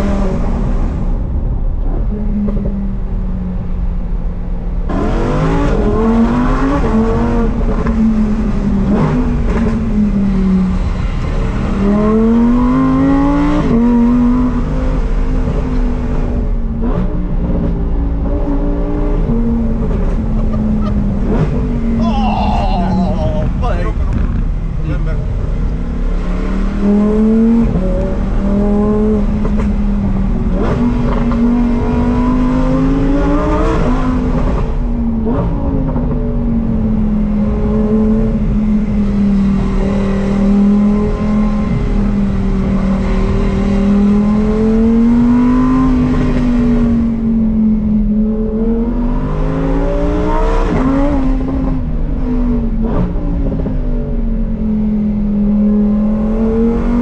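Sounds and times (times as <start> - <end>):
car engine revving: 4.8 - 57.0.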